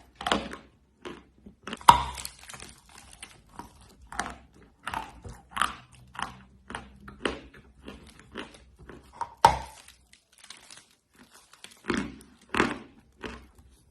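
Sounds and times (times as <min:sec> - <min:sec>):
clay being chewed crunching: 0:00.0 - 0:13.9.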